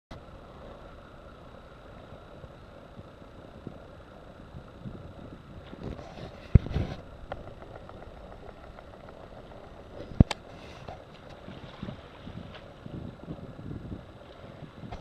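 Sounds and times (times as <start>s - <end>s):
wind rumble on microphone: 0.2s - 15.0s.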